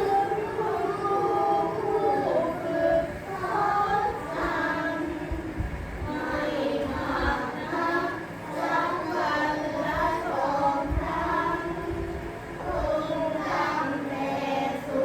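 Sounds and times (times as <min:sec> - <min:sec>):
children chanting in unison: 0:00.0 - 0:05.5, 0:06.1 - 0:15.0.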